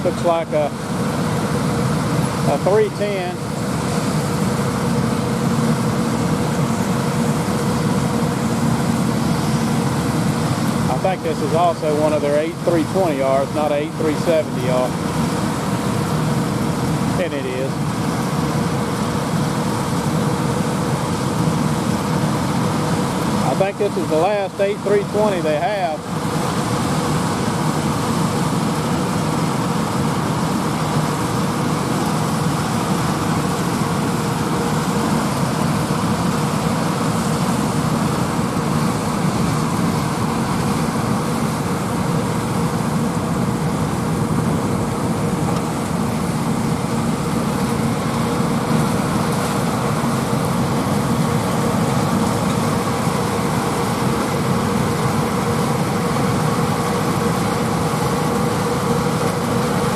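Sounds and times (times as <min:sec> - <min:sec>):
farm machinery droning: 0:00.0 - 0:59.9.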